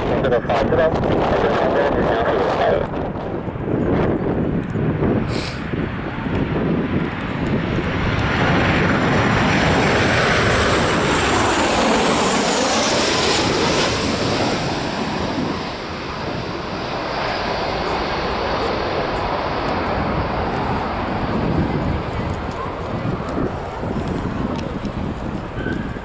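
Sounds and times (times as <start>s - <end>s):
jet airliner passing by: 0.0s - 26.0s.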